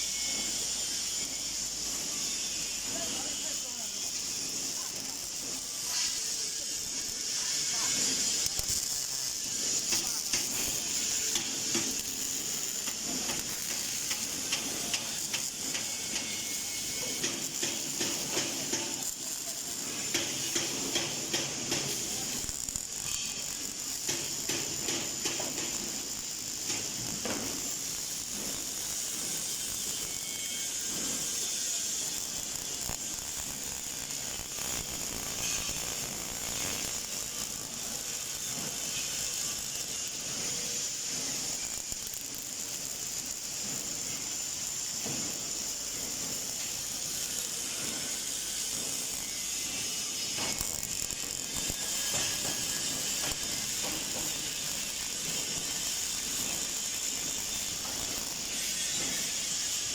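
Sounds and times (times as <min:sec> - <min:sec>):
constant high hiss: 0:00.0 - 0:59.9
welding arc crackling: 0:00.0 - 0:59.9.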